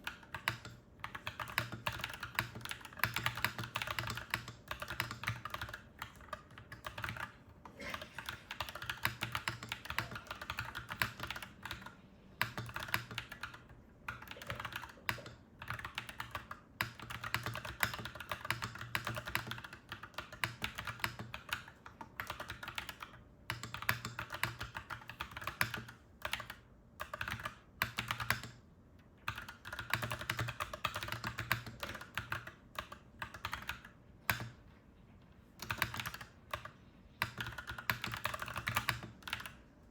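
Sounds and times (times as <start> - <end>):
mechanical keyboard typing: 0.0 - 28.6, 29.2 - 34.6, 35.6 - 39.6.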